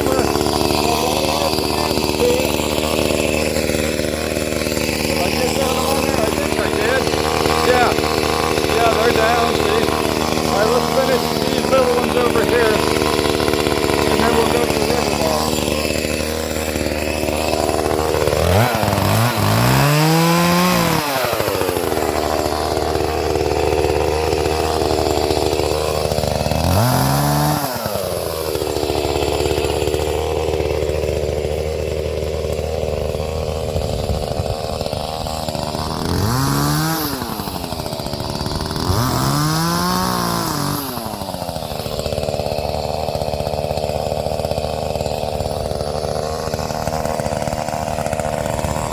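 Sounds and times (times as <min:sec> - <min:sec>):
chainsaw idling and revving: 0:00.0 - 0:48.9.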